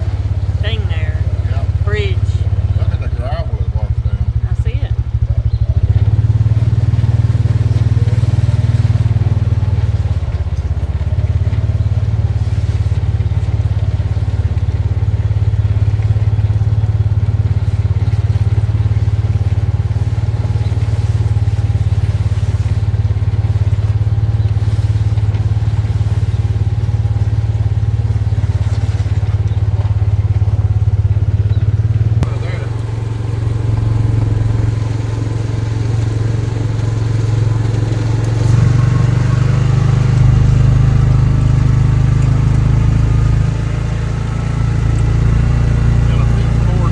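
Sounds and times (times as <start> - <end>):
vehicle engine rumble: 0.0 - 46.9.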